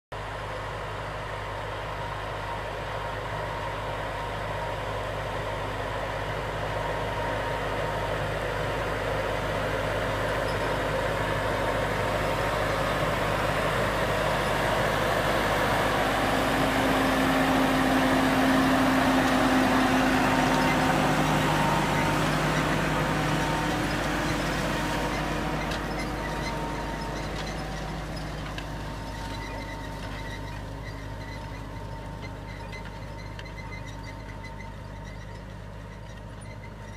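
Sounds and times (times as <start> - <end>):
tractor diesel engine running: 0.1 - 36.9
planter mechanical noise: 0.2 - 36.9.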